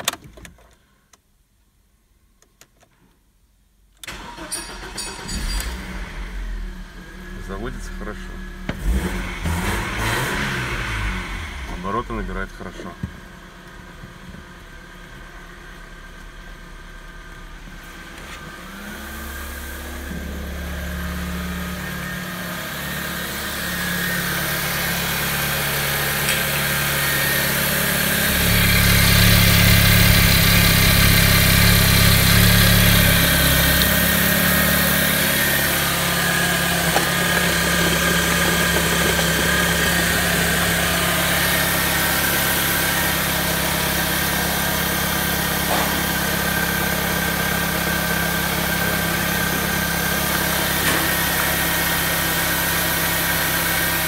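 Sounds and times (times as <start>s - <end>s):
car engine idling: 4.1s - 54.0s.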